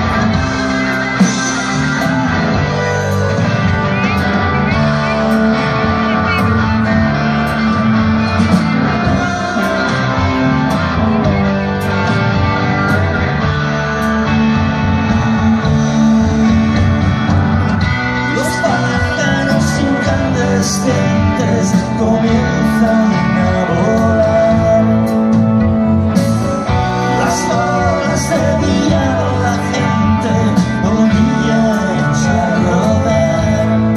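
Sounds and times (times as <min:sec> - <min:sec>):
live rock band: 0:00.0 - 0:33.9.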